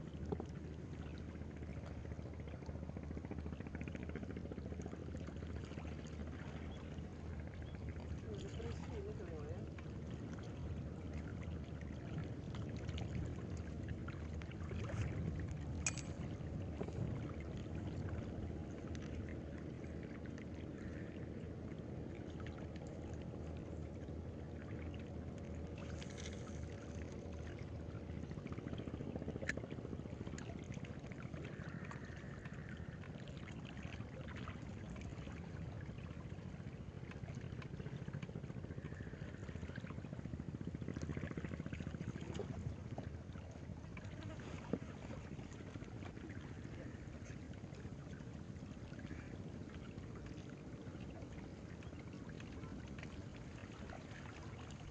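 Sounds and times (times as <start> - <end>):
water rushing at shoreline: 4.4 - 54.9.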